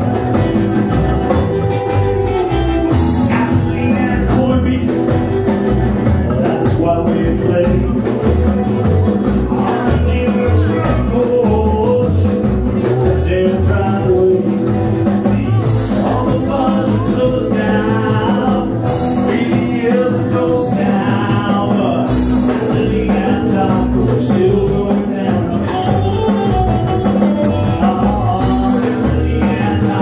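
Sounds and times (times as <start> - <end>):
drums: 0.0 - 30.0
electric guitar: 0.0 - 30.0
upright bass: 0.0 - 30.0
man singing: 2.9 - 30.0.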